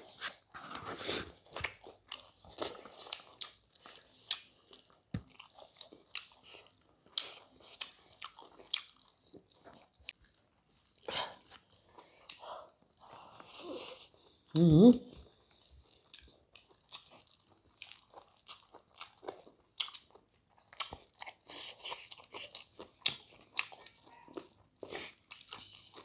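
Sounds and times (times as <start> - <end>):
chewing and crunching chicken: 0.0 - 26.0.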